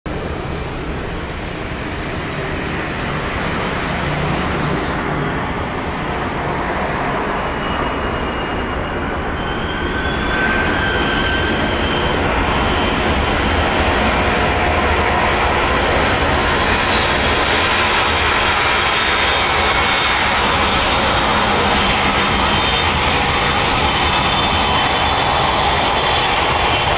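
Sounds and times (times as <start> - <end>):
high engine whine: 0.1 - 26.9
jet engines roaring: 0.1 - 26.9.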